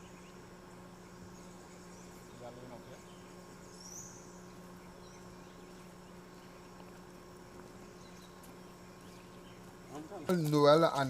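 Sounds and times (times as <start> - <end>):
insects buzzing: 0.0 - 11.0
steady low hum: 0.0 - 11.0.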